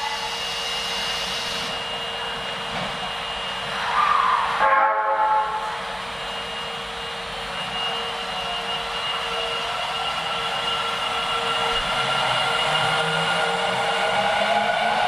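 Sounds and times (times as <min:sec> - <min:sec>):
subway train motor whine: 0:00.0 - 0:15.0.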